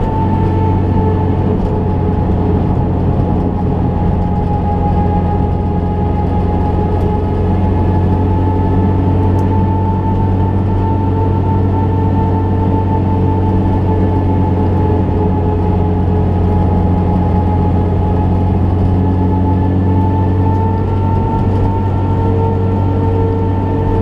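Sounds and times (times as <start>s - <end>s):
car engine cruising: 0.0s - 24.0s
road and tyre noise: 0.0s - 24.0s.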